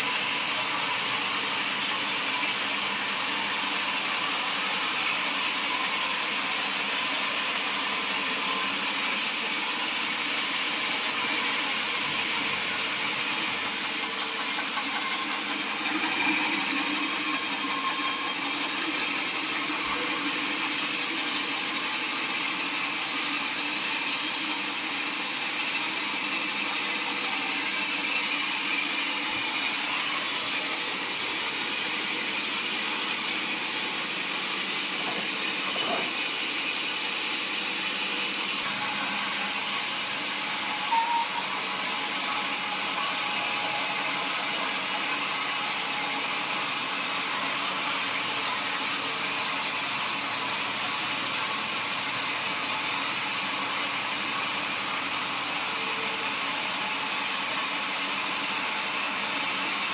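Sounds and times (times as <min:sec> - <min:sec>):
sawmill saw hissing: 0:00.0 - 0:59.9.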